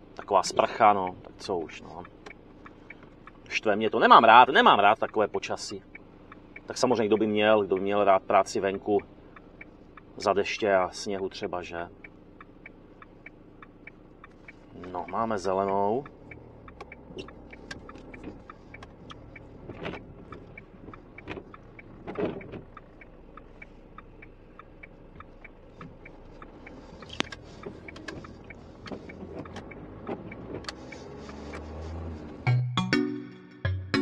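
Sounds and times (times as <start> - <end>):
van engine and road noise: 0.0 - 32.7
regular ticking: 0.0 - 33.0.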